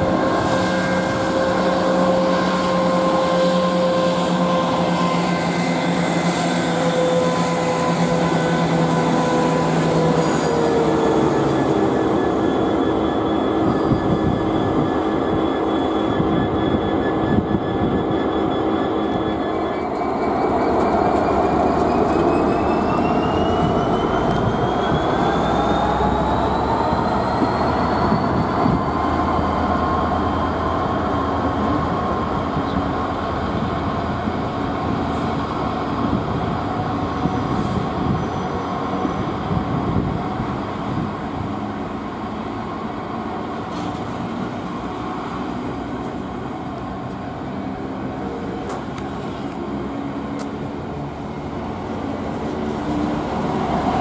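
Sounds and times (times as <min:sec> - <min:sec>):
train rumble: 0:00.0 - 0:54.0
train whine: 0:00.0 - 0:54.0.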